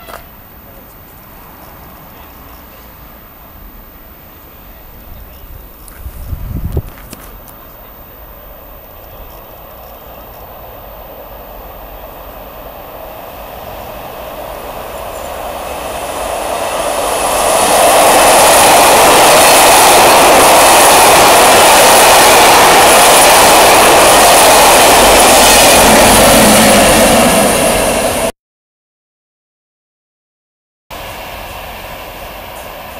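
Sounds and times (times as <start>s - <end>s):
train wheels rushing on rails: 0.0s - 28.3s, 31.0s - 32.9s.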